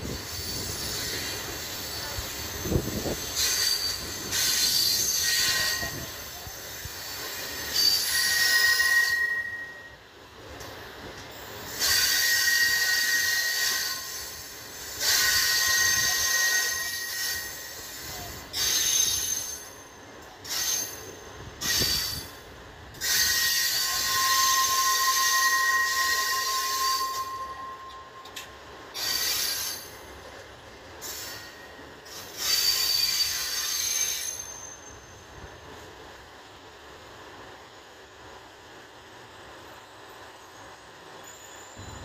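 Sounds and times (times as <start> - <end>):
train wheels squealing on rails: 0.0 - 42.0.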